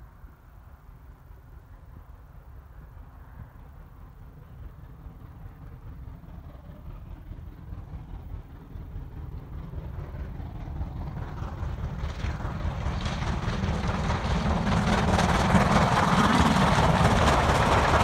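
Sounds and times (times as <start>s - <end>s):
steam locomotive passing: 0.0s - 18.0s.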